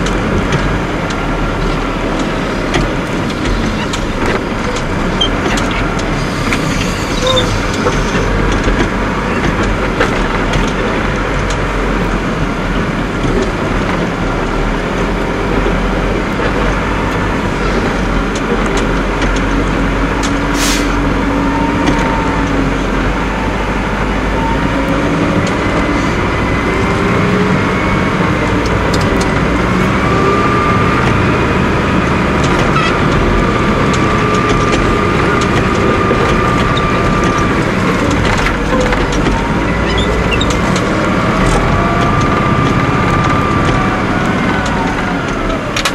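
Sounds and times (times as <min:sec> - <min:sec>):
diesel engine running under load: 0:00.0 - 0:45.9
engine whine: 0:00.0 - 0:45.9.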